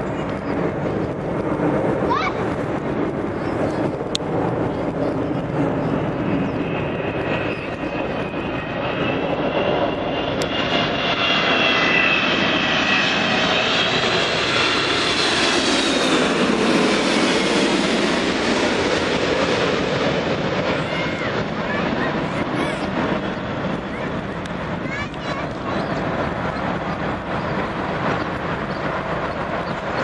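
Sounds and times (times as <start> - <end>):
jet engines passing: 0.0 - 30.0.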